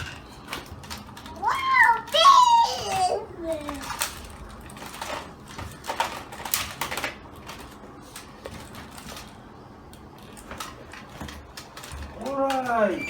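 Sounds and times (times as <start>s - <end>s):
plastic toy parts clicking: 0.0s - 7.8s, 8.9s - 13.0s.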